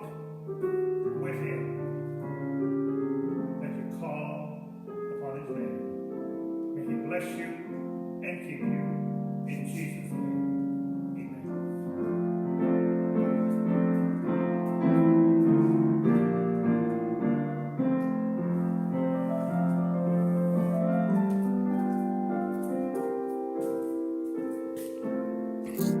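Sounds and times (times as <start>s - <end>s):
keyboard playing slow chords: 0.0s - 26.0s.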